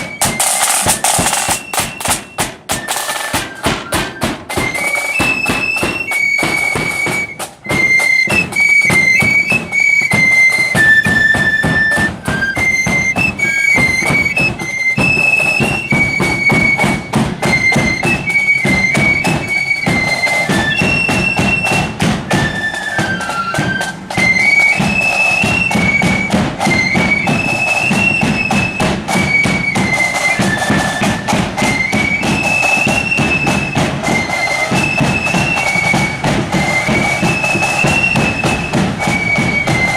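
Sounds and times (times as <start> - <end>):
drum beat: 0.0 - 39.9
flutes playing melody: 0.0 - 39.9.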